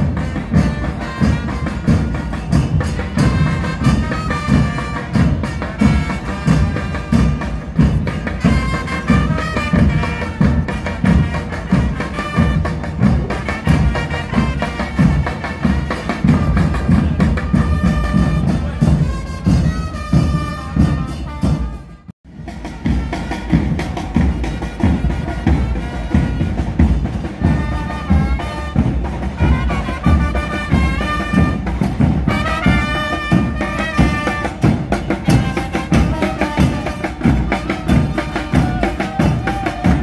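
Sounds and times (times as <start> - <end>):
bass drums beating: 0.0 - 40.0
higher melody over drums: 0.0 - 40.0.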